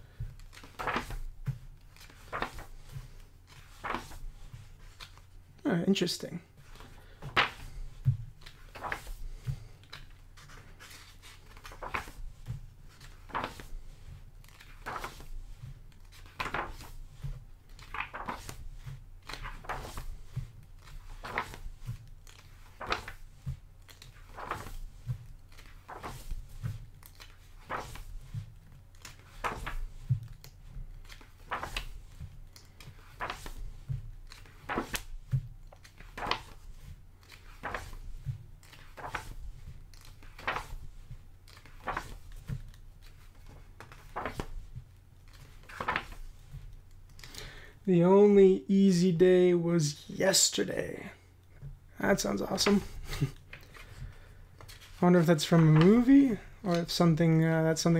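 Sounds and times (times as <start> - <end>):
book pages turning: 0.0 - 5.6, 6.6 - 47.6, 51.4 - 57.2.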